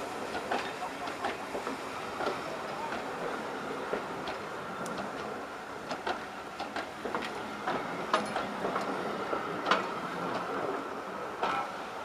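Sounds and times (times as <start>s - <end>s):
train wheels clicking on track: 0.0s - 12.0s.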